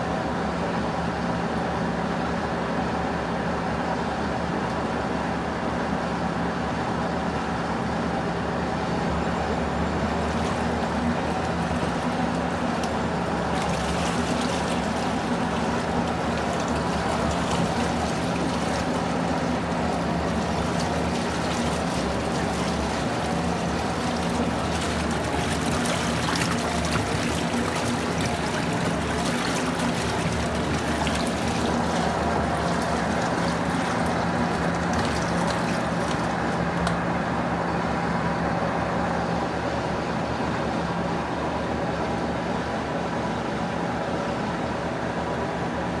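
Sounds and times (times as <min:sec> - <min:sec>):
washing machine motor hum: 0:06.5 - 0:46.0
water splashing in washing machine: 0:07.2 - 0:44.4.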